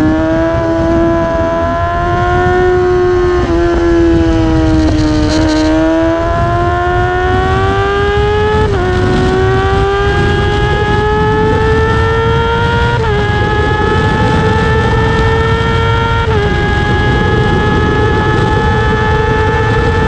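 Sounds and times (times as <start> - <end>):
motorcycle engine at full throttle: 0.0 - 20.0
rushing wind: 0.0 - 20.0.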